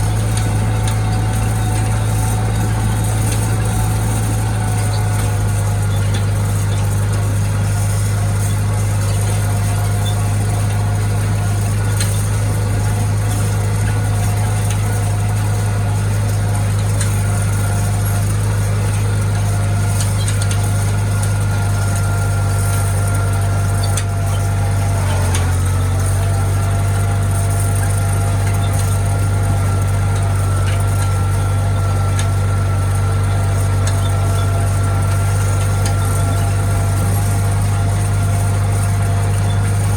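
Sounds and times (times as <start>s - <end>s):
tractor engine humming: 0.0s - 39.9s.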